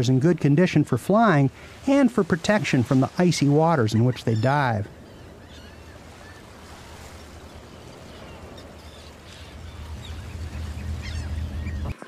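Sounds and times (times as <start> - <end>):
distant bird calls: 1.5 - 12.0.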